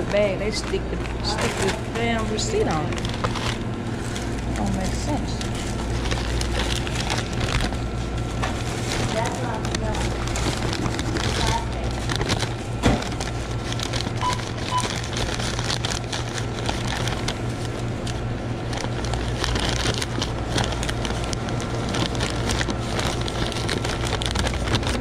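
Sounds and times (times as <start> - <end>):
paper bag crinkling: 0.0 - 25.0
steady low hum: 0.0 - 25.0.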